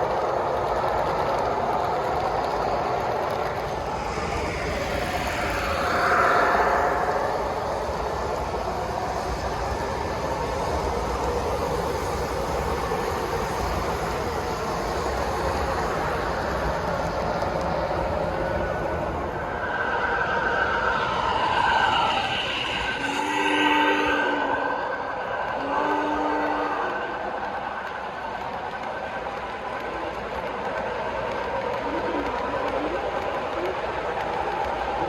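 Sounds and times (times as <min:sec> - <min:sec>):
model train wheels rumbling: 0:00.0 - 0:35.0.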